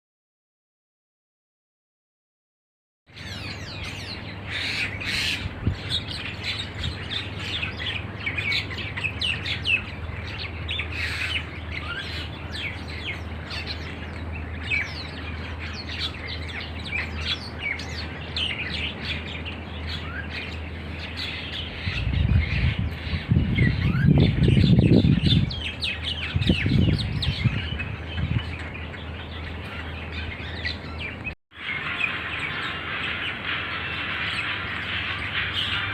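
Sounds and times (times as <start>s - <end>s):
starlings chattering and chirping: 3.1s - 35.9s.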